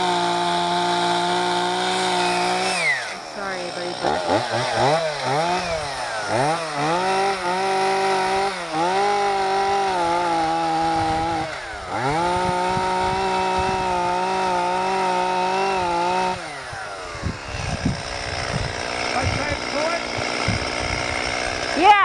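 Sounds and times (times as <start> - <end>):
chainsaw running at high revs: 0.0 - 22.0.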